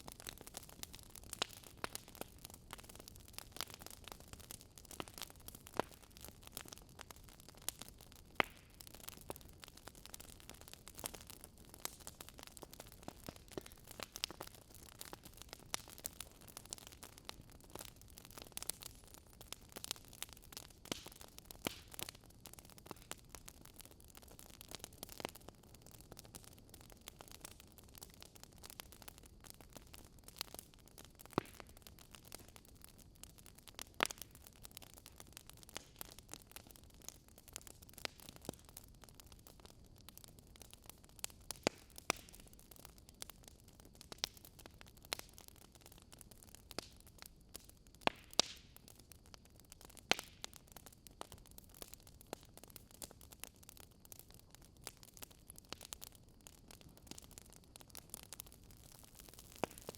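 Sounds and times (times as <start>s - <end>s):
burning logs crackling: 0.0s - 59.9s.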